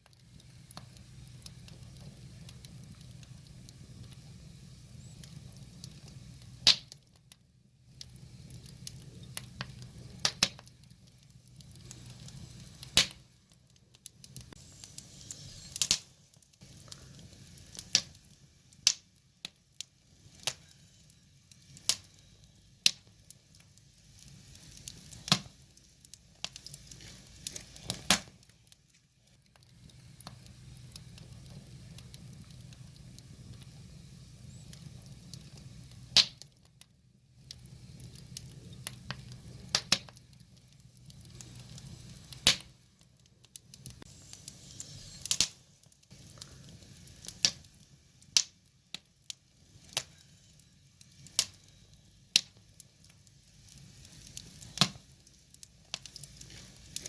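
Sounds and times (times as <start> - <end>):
burning logs popping: 0.0 - 57.0
low rumble of flames: 0.0 - 57.0.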